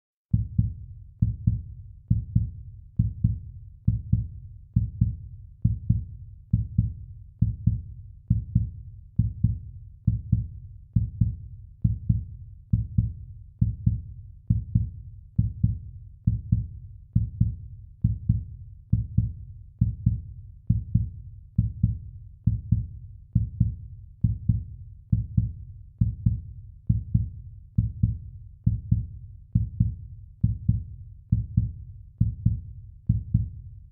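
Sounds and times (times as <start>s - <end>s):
heartbeat thumps: 0.3s - 33.9s.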